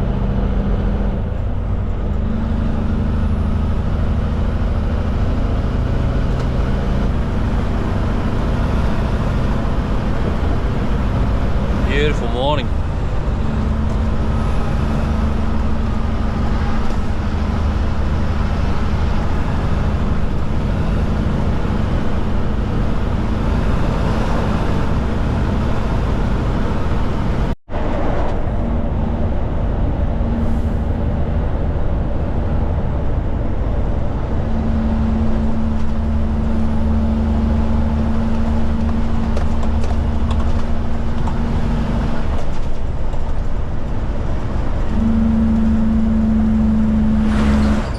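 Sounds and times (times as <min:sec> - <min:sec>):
diesel truck engine drone: 0:00.0 - 0:47.9
road noise: 0:00.0 - 0:47.9.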